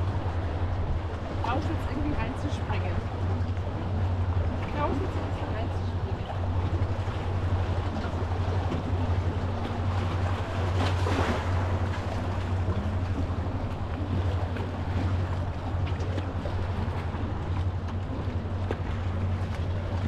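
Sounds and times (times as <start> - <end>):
steady low hum: 0.0 - 20.0
water noise: 0.0 - 20.0
wind: 0.0 - 20.0.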